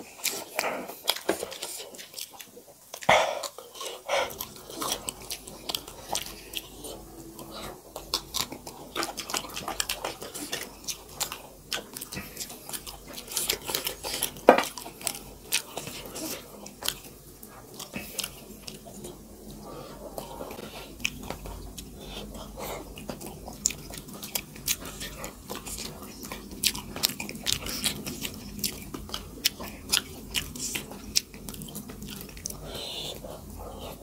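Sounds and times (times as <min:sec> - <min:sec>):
chewing with wet mouth clicks: 0:00.0 - 0:34.0.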